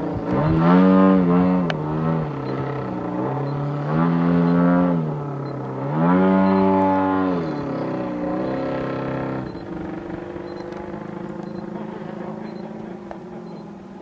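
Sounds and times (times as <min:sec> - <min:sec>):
model plane engine: 0:00.0 - 0:14.0.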